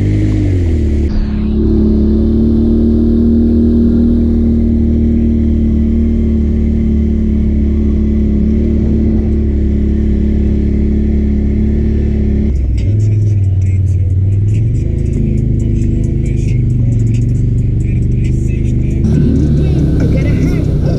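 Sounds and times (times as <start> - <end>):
vehicle engine humming: 0.0 - 20.9.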